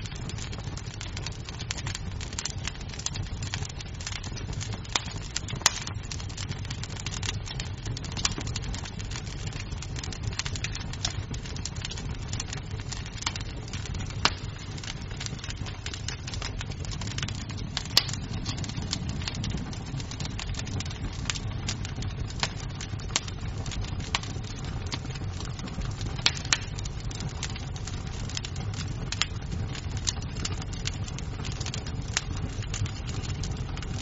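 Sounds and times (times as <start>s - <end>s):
sharp fire pops: 0.0s - 34.0s
wood fire crackling: 0.0s - 34.0s.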